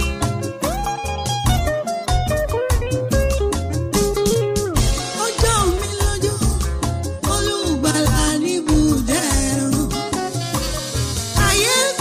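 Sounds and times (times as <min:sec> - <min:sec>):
background music with sliding melody: 0:00.0 - 0:12.0.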